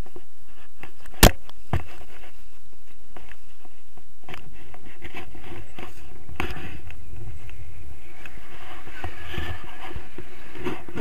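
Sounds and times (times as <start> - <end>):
camera rustling: 0.0 - 11.0
wind rumble on microphone: 0.0 - 11.0.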